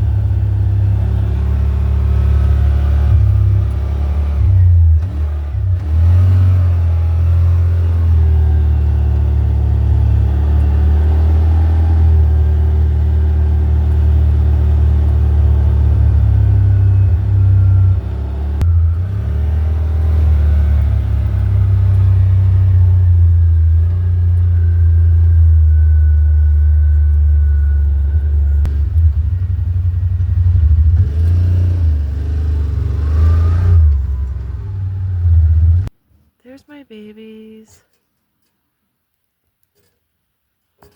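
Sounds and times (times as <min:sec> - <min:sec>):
car engine accelerating: 0:00.0 - 0:35.9
road rumble: 0:00.0 - 0:37.8.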